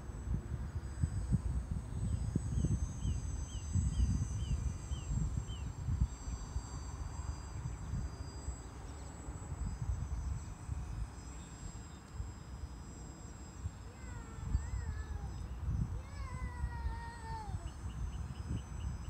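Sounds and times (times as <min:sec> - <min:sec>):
wind buffeting microphone: 0:00.0 - 0:12.4, 0:13.6 - 0:19.0
model plane motor whine: 0:00.0 - 0:19.0.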